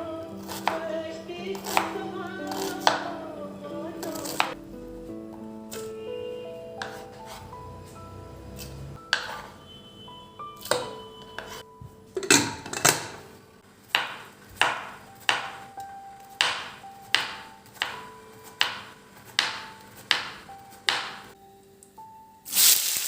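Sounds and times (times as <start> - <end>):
soft background music: 0.0 - 23.0.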